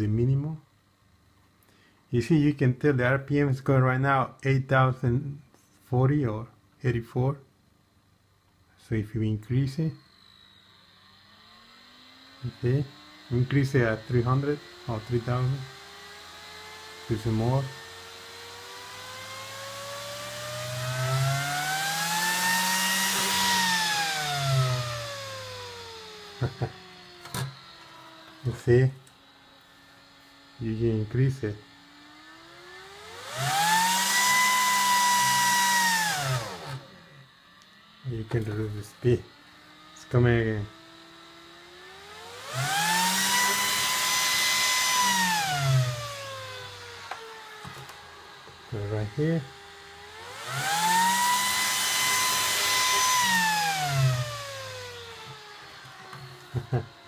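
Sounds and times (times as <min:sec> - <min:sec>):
server fan whine: 0:00.0 - 0:57.0.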